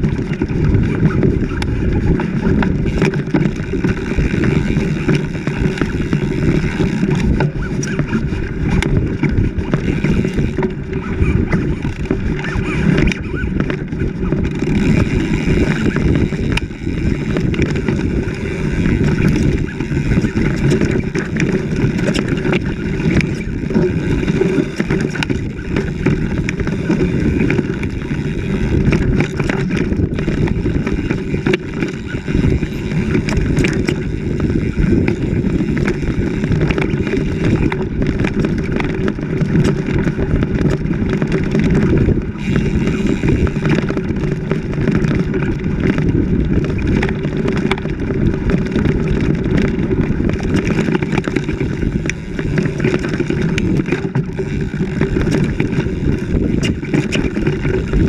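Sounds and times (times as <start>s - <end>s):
knocks and rattles over bumps: 0.0s - 58.0s
off-road vehicle engine running: 0.0s - 58.0s.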